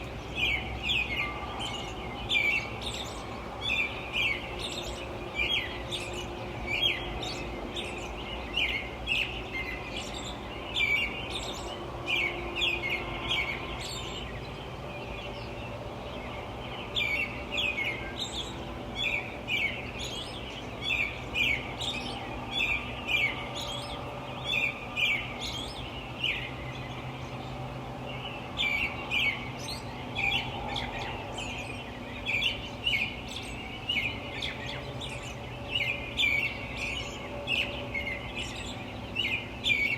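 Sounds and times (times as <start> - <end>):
distant light traffic hum: 0.0 - 39.9
small birds chirping: 0.0 - 39.9.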